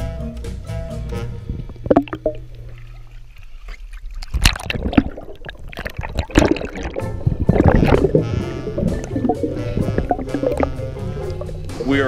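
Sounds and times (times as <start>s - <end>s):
muffled underwater sloshing: 1.3s - 12.0s.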